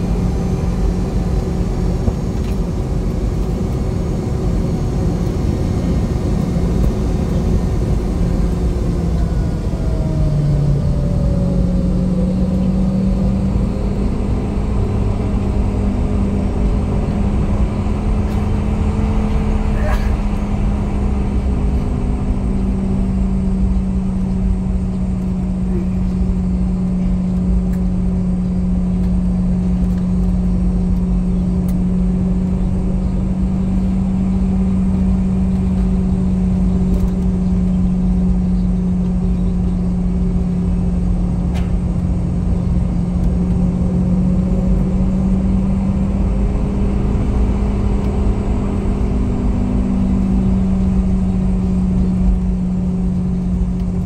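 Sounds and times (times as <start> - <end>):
jet engines droning in cabin: 0.0 - 54.0.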